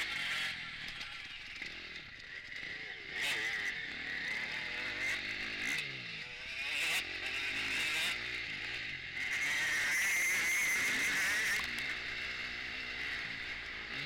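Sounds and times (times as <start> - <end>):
motocross bike engine revving: 0.0 - 14.0.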